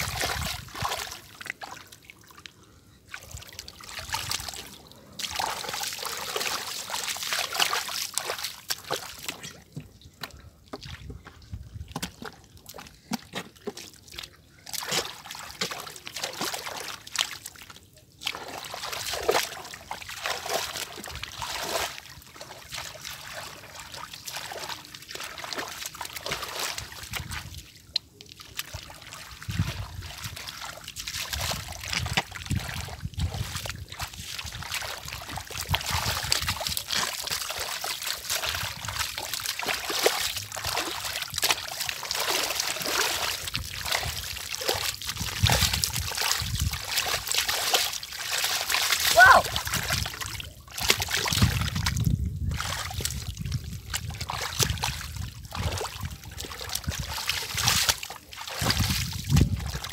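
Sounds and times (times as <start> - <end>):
hands splashing in muddy water: 0.0 - 2.5, 3.1 - 59.9.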